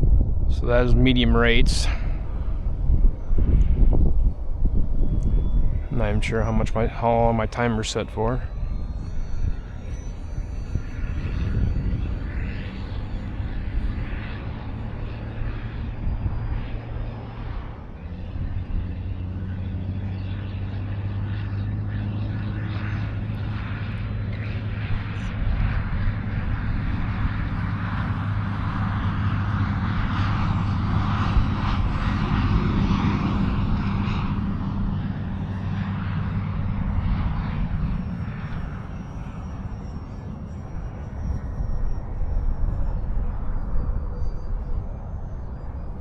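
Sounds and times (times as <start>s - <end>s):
model plane propeller droning: 0.0s - 46.0s
wind rumble on microphone: 0.0s - 46.0s.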